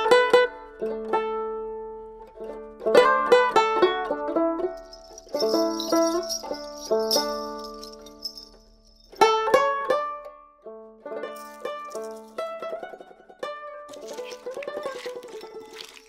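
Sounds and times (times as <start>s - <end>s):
plucked string tune: 0.0s - 16.0s.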